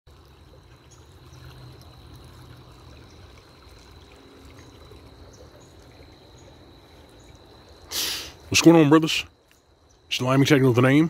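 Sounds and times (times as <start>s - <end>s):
creek trickling over rocks: 0.1s - 11.0s.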